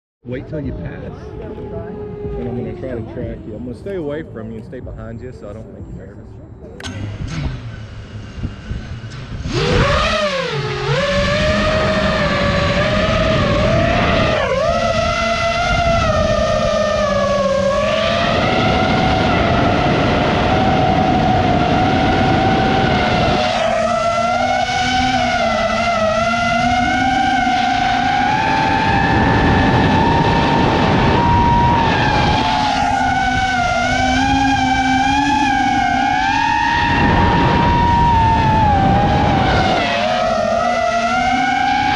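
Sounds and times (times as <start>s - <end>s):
quadcopter motors whining: 0.3s - 41.9s
wind noise: 0.3s - 41.9s.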